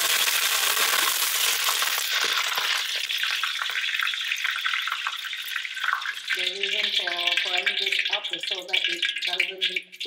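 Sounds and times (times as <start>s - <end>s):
leaves sizzling in hot oil: 0.0s - 9.8s.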